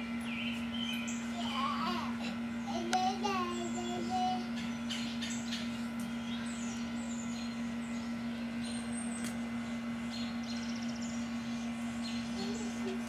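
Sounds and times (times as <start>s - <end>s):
steady low hum: 0.0s - 13.0s
small birds chirping: 0.2s - 1.8s, 2.5s - 13.0s.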